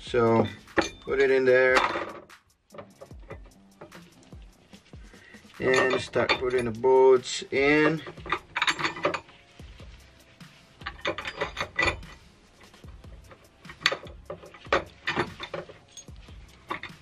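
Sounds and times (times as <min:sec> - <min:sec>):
bolts and tools clicking on steel: 0:00.2 - 0:09.5, 0:10.2 - 0:17.0.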